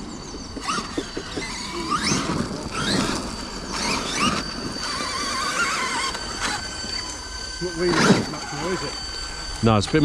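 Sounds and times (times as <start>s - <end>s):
cooling fans high whine: 0.0s - 10.0s
electric motors whining: 0.0s - 10.0s.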